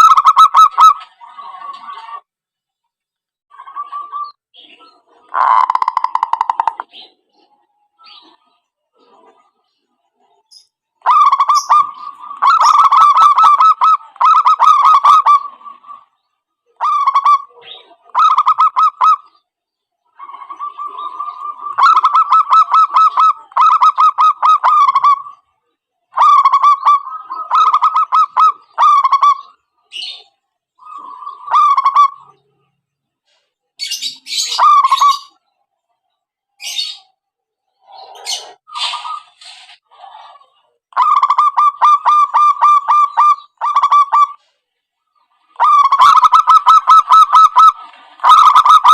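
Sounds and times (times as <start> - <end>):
doves cooing in trills: 0.0 - 2.3, 3.5 - 10.3, 11.0 - 19.4, 20.1 - 25.5, 26.1 - 32.6, 34.1 - 35.4, 37.7 - 44.4, 45.5 - 48.9.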